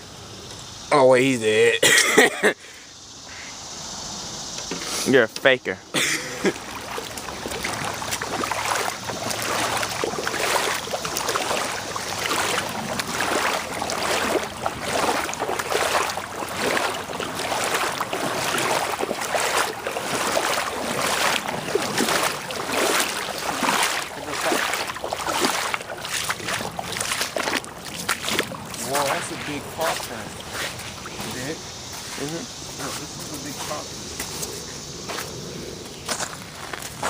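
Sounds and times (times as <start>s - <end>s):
creek water sloshing and splashing: 5.9s - 37.0s.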